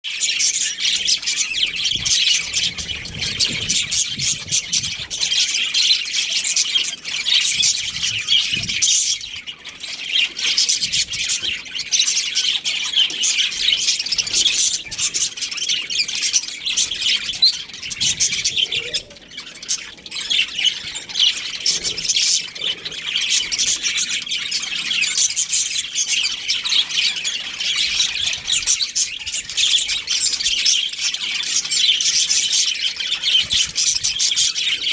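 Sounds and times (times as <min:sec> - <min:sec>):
budgerigars chirping and chattering: 0:00.1 - 0:34.9.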